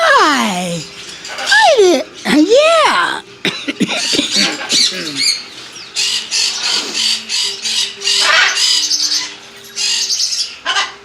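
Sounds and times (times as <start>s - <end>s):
parrots squawking: 0.0s - 11.0s.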